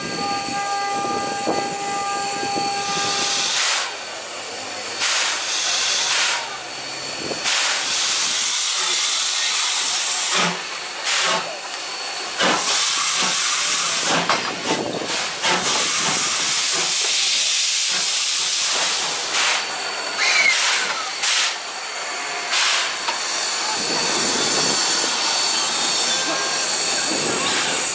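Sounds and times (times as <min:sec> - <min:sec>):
steam locomotive venting steam: 0:00.0 - 0:27.9.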